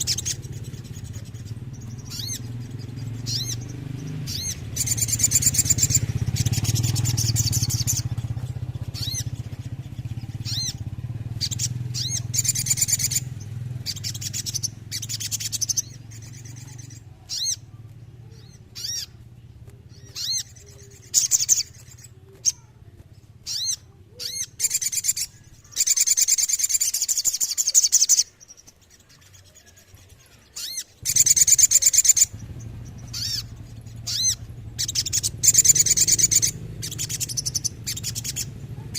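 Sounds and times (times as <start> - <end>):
bird singing with trills: 0.0 - 38.9.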